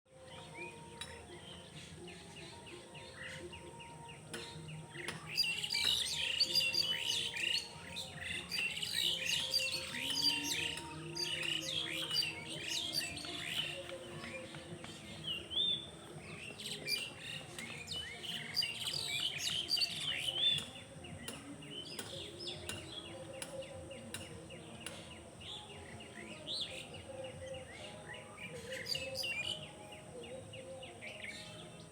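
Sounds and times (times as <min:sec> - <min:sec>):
birds chirping: 0:00.1 - 0:31.9.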